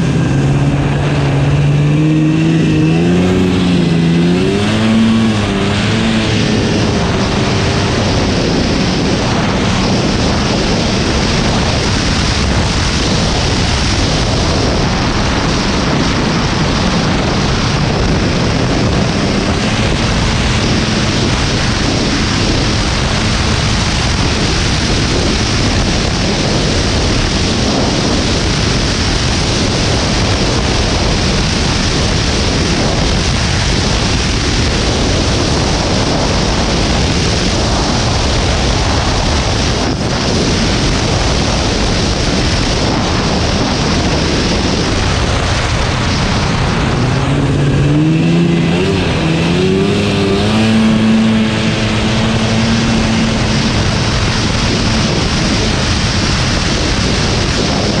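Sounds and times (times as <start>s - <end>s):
snowmobile engine: 0.0s - 58.0s
wind on microphone: 0.0s - 58.0s.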